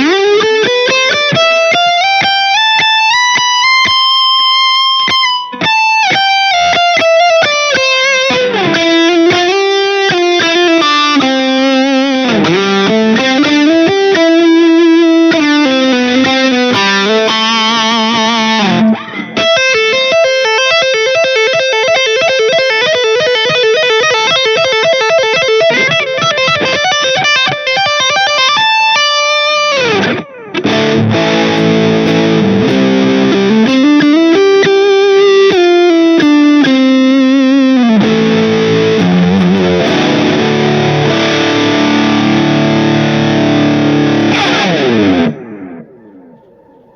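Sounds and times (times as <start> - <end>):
distorted electric guitar: 0.0 - 46.9.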